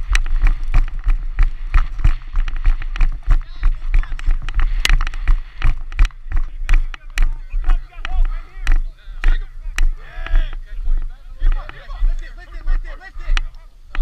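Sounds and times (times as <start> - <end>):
running footsteps on grass: 0.0 - 14.0.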